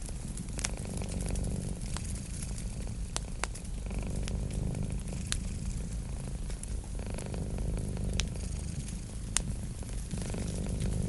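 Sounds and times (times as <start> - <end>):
cat purring: 0.0 - 11.0
wood fire crackling and popping: 0.0 - 11.0.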